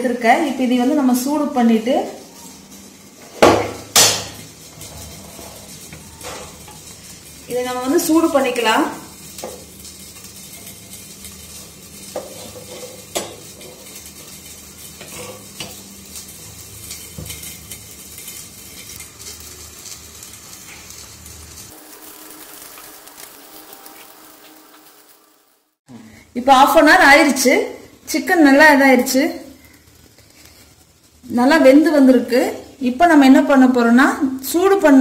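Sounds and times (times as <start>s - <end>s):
gas burner hissing: 0.0s - 35.0s.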